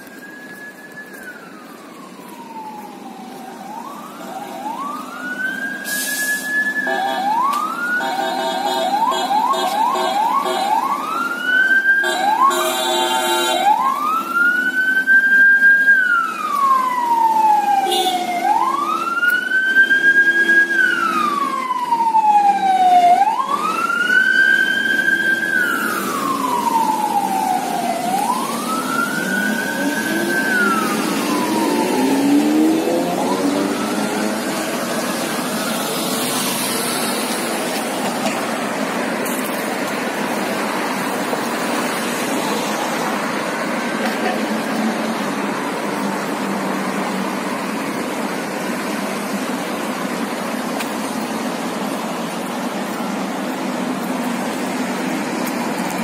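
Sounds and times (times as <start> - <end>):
emergency vehicle siren wailing: 0.0 - 56.0
traffic noise: 0.0 - 56.0.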